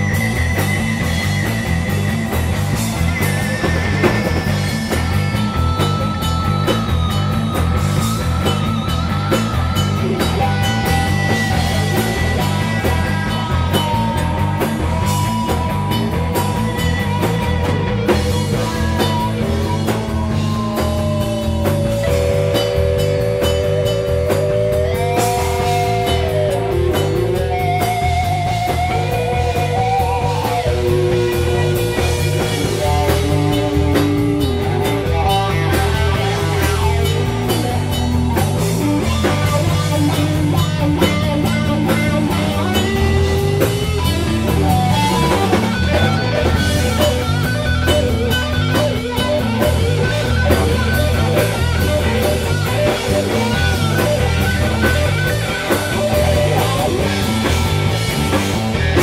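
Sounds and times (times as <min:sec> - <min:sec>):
bass and drum beat: 0:00.0 - 0:59.0
gliding lead guitar notes: 0:00.0 - 0:59.0.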